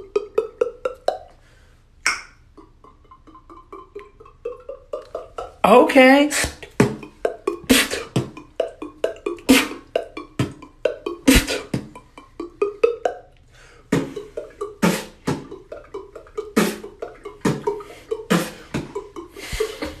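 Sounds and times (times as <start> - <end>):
person beatboxing: 0.0 - 1.4, 2.1 - 20.0.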